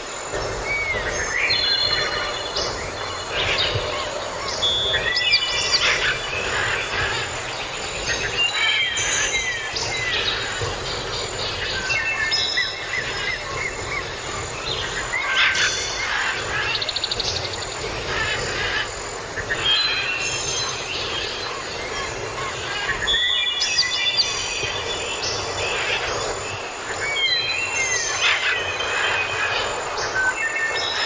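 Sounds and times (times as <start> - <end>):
small birds chirping and whistling: 0.0 - 31.0
steady background hiss: 0.0 - 31.0.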